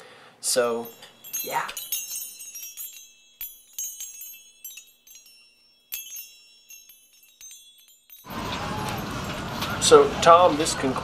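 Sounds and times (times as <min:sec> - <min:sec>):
tinkling bell-like chimes: 0:00.6 - 0:10.8.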